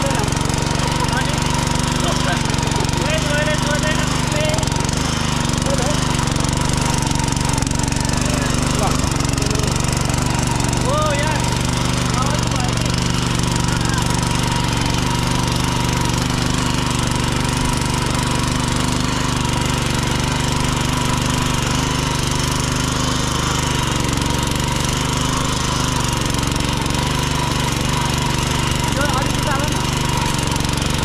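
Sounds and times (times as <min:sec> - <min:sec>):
tiller engine under load: 0:00.0 - 0:31.0.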